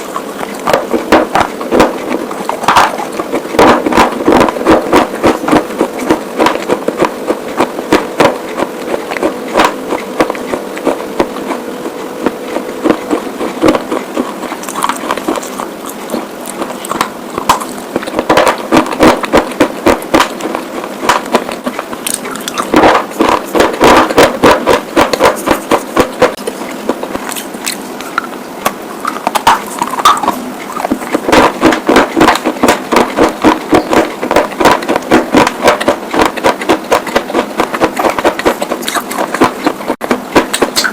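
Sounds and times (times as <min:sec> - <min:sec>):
crunching of slate being chewed: 0:00.4 - 0:28.3, 0:29.0 - 0:40.9.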